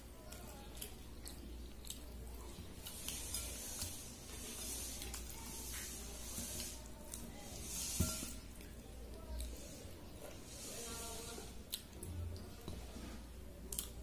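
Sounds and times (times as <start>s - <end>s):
chewing: 0.0s - 14.0s
fingers squishing wet rice: 0.0s - 14.0s.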